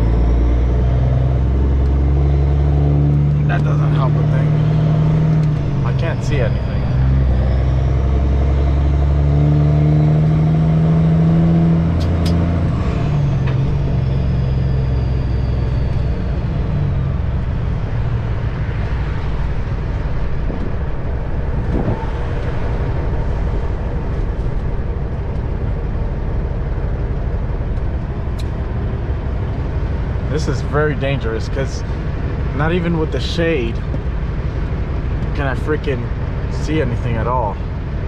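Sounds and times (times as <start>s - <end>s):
road and wind noise: 0.0s - 38.0s
truck diesel engine drone: 0.0s - 38.0s.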